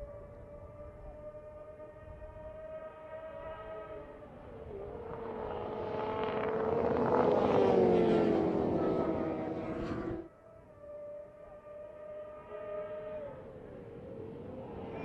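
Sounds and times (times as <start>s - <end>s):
racing motorcycles passing by: 1.4s - 10.3s, 11.0s - 15.0s.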